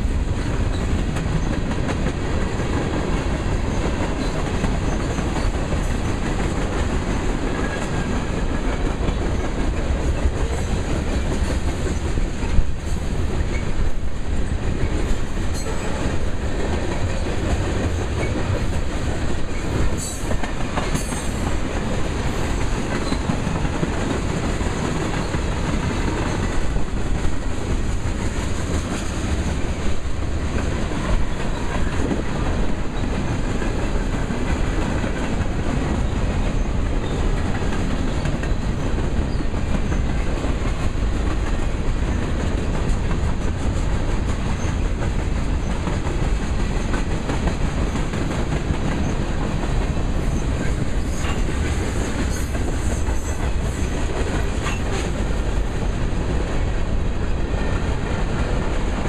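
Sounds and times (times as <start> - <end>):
freight train rumbling past: 0.0 - 59.0
steel wheels clattering over rail joints: 0.0 - 59.0.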